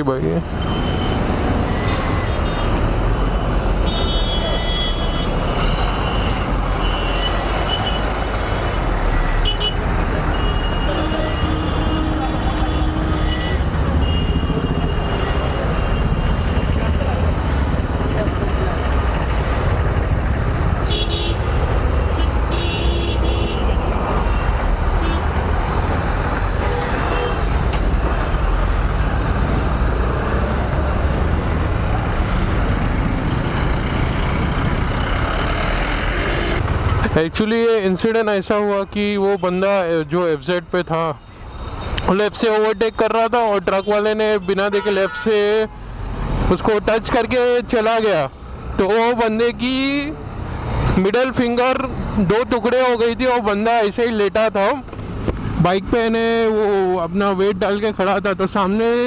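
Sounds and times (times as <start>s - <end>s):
road traffic: 0.0s - 59.0s.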